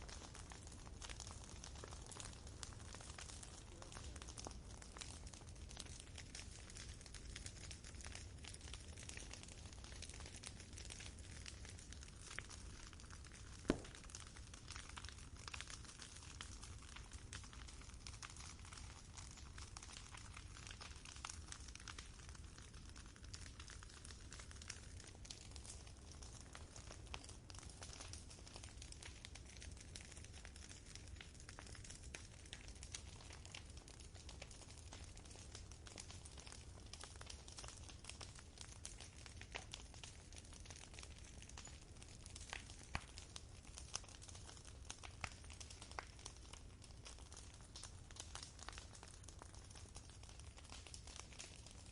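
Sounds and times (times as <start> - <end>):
campfire crackling: 0.0 - 51.9
fire popping: 0.0 - 51.9.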